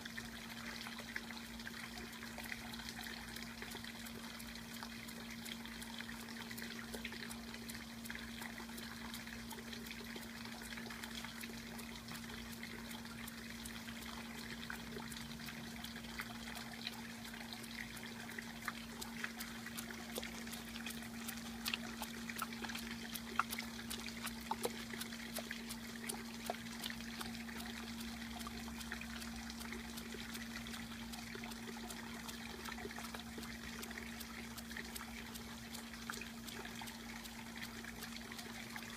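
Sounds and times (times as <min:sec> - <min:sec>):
steady low hum: 0:00.0 - 0:38.9
water trickling and splashing: 0:00.0 - 0:38.9.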